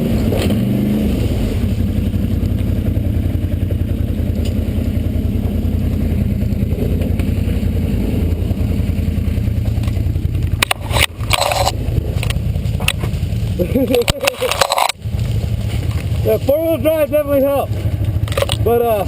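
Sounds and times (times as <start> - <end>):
off-road engine throbbing: 0.0 - 19.0.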